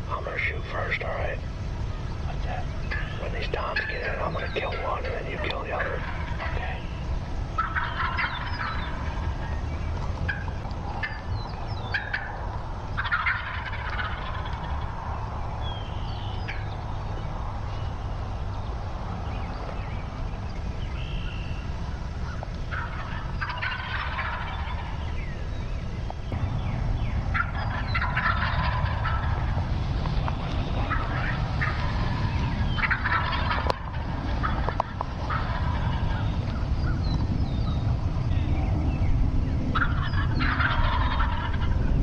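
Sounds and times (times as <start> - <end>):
turkeys gobbling: 0.0 - 17.2, 21.6 - 25.4, 27.0 - 38.7, 39.7 - 41.9.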